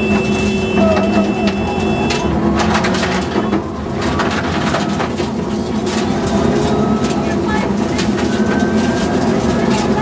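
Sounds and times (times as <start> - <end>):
rally car engine under load: 0.0 - 10.0.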